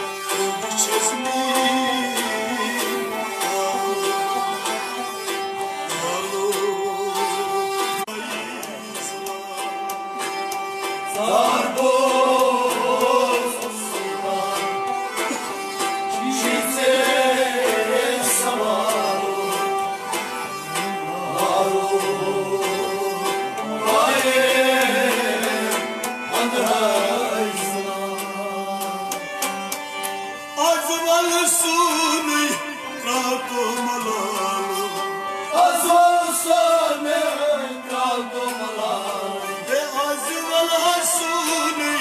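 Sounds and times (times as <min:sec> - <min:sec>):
held instrumental tones: 0:00.0 - 0:42.0
person singing: 0:00.0 - 0:42.0.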